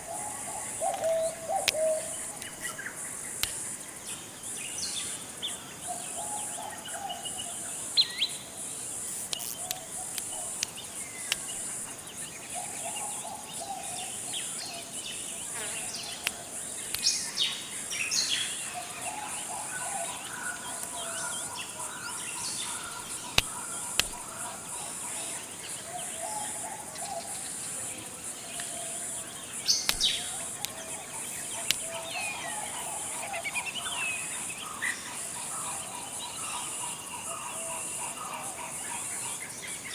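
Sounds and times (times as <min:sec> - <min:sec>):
bird calls: 0:00.0 - 0:03.8, 0:09.3 - 0:27.8, 0:28.5 - 0:39.9
high-pitched insect drone: 0:06.0 - 0:39.0.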